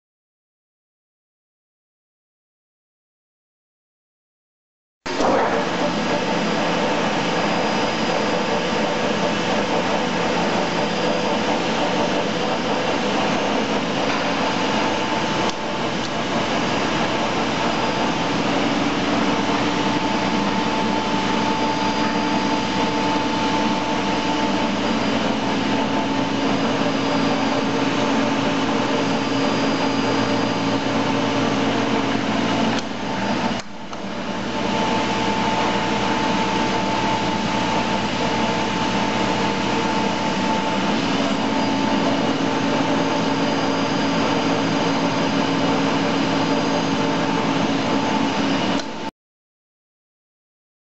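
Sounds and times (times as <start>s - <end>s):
lathe running with whine: 5.1s - 49.1s.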